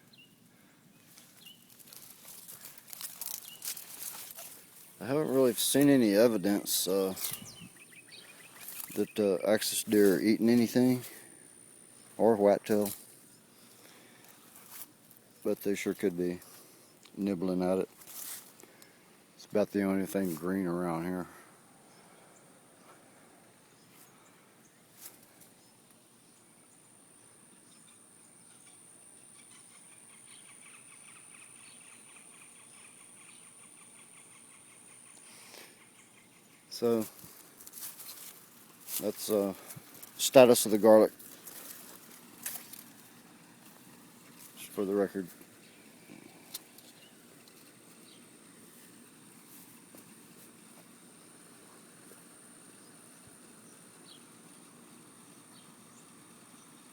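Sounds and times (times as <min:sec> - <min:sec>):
low hiss: 0:00.0 - 0:33.8, 0:34.5 - 0:56.9.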